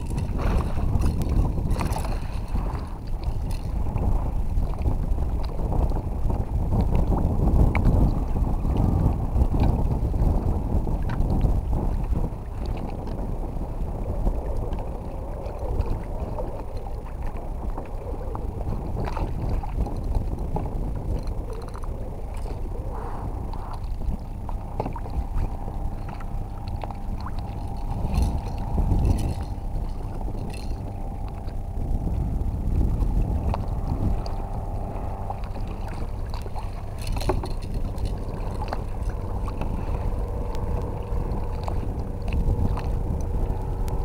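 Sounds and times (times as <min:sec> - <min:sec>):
wind rumbling on microphone: 0:00.0 - 0:44.0.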